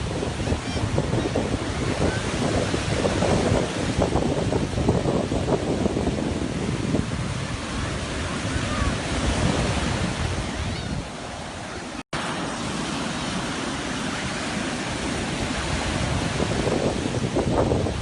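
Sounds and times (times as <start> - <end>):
wind buffeting microphone: 0.0 - 12.0, 14.1 - 18.0
sea waves washing onto shore: 0.0 - 18.0.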